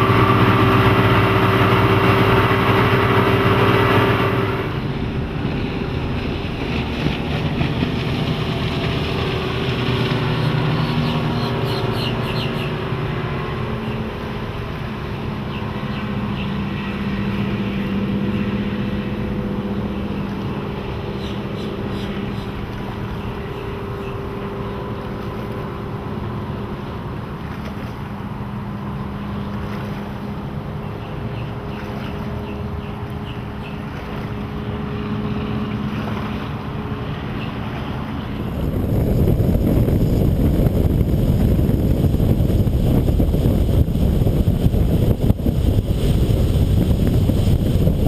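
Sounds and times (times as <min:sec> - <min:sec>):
wind on microphone: 0:00.0 - 0:28.2, 0:31.8 - 0:48.0
outboard engines droning: 0:00.0 - 0:48.0
water rushing: 0:00.0 - 0:48.0.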